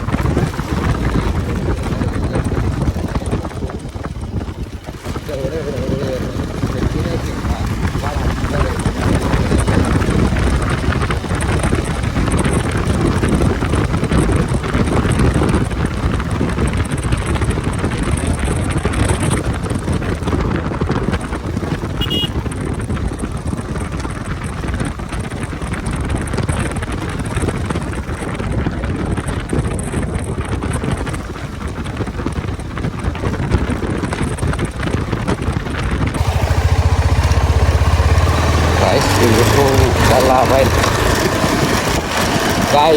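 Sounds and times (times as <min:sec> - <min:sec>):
vehicle engine hum: 0:00.0 - 0:27.8, 0:36.1 - 0:42.9
wind rushing over microphone: 0:00.0 - 0:42.9.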